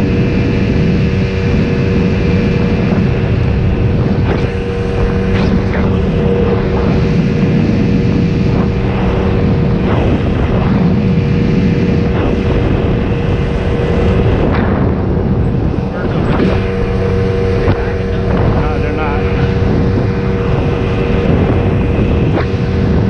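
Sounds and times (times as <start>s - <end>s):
motorboat engine running: 0.0s - 23.0s
wind and water noise: 0.0s - 23.0s.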